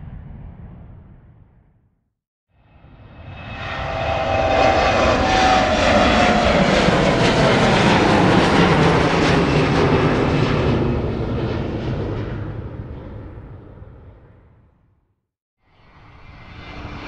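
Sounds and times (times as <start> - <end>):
airplane engines taking off: 2.6 - 14.9, 15.6 - 17.0.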